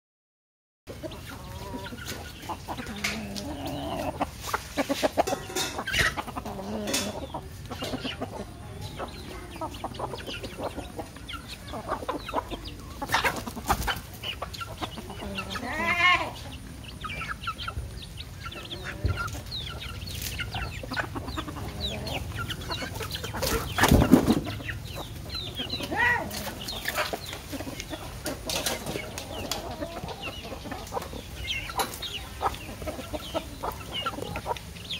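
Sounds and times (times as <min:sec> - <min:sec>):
chickens clucking: 0:00.9 - 0:34.9.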